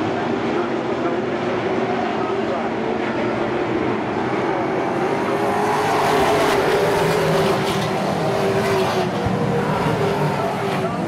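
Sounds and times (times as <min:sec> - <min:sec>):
stock car engines racing: 0:00.0 - 0:11.0.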